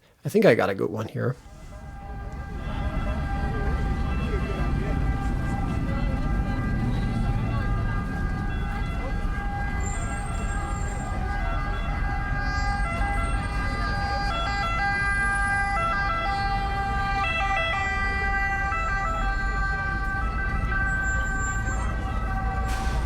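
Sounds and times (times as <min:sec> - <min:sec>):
low street traffic rumble: 0:01.4 - 0:23.0
two-tone ambulance siren: 0:01.4 - 0:23.0.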